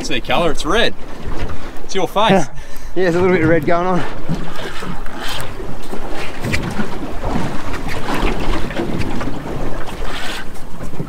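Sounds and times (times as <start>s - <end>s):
water washing around boat: 0.0s - 11.0s.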